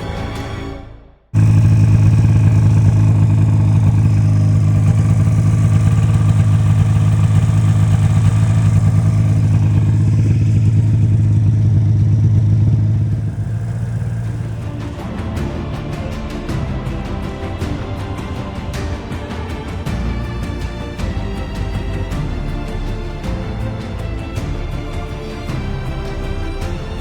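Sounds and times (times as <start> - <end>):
music: 0.0 - 1.8, 2.5 - 27.0
snowmobile engine drone: 1.4 - 25.0.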